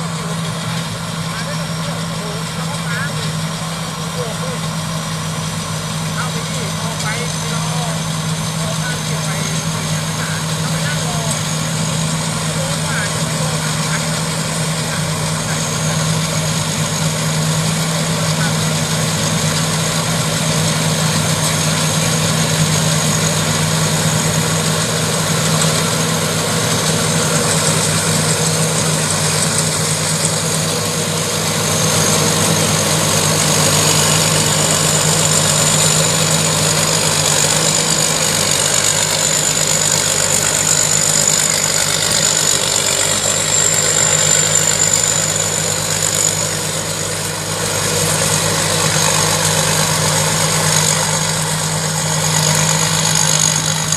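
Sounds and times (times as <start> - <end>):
constant high whine: 0.0 - 53.9
diesel engine running: 0.0 - 53.9.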